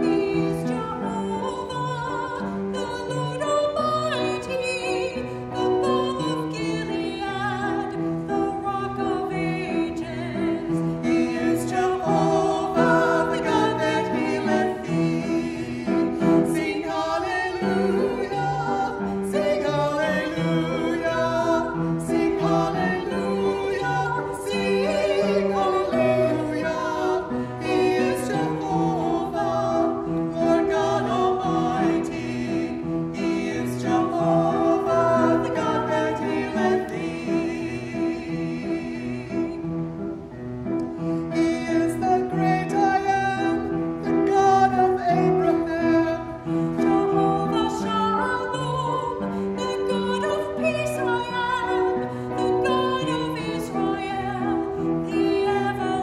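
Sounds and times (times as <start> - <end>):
two women singing a duet: 0.0 - 40.3, 41.2 - 56.0.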